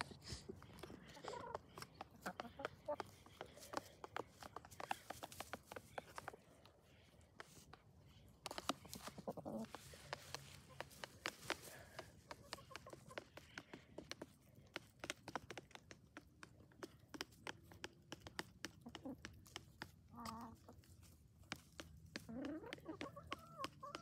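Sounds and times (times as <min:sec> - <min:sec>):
chicken clucking: 0:00.0 - 0:07.7, 0:08.5 - 0:14.2, 0:17.1 - 0:24.0
beaks tapping plastic tray: 0:00.6 - 0:24.0.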